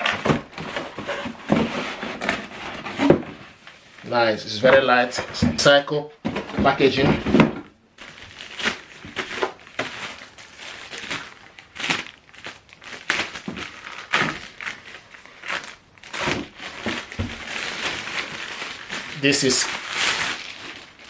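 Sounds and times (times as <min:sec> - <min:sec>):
packaging crinkling and rustling: 0:00.0 - 0:04.1, 0:04.7 - 0:21.0.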